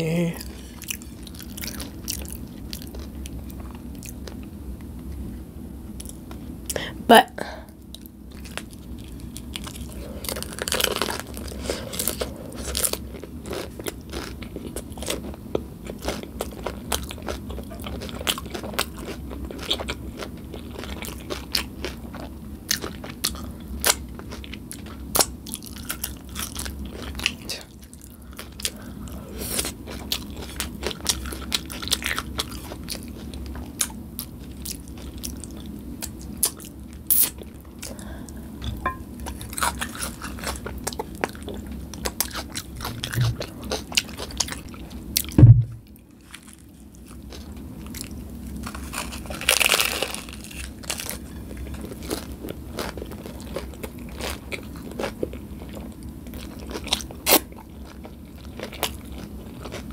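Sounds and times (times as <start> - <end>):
chewing crunchy taco shell: 0.4 - 5.2, 7.7 - 59.9.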